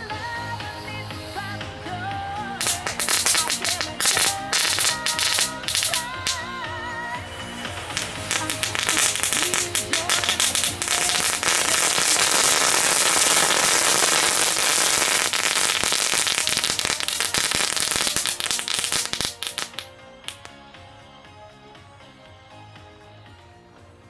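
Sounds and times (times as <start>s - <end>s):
firecrackers crackling: 1.2s - 20.6s.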